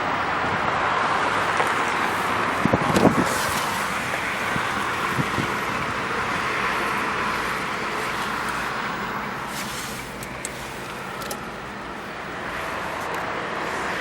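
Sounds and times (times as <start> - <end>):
car engine idling: 1.0 - 14.0.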